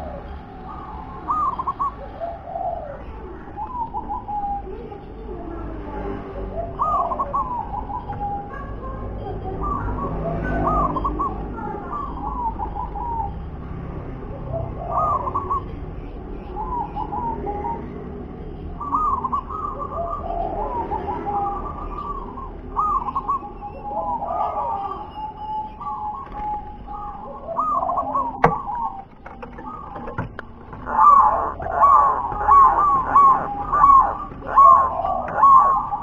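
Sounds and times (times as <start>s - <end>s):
dove cooing: 0.0s - 13.6s, 14.2s - 36.0s.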